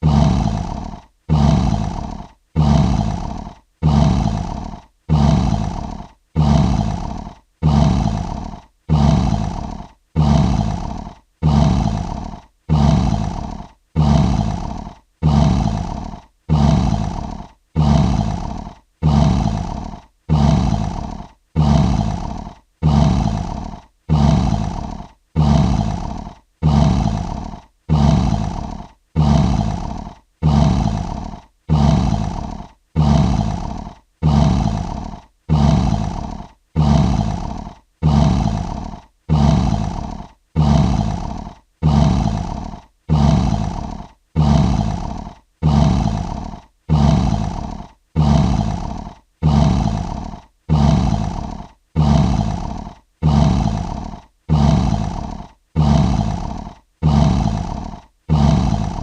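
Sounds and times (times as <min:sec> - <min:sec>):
lion roaring: 0:00.0 - 0:59.0.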